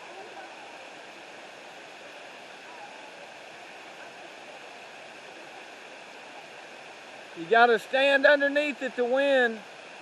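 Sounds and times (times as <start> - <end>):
waterfall and creek rushing: 0.0 - 10.0.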